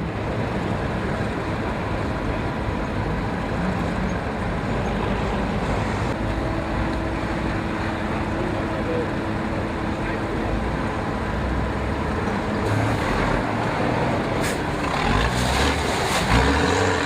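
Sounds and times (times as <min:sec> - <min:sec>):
heavy diesel engines under load: 0:00.0 - 0:17.0.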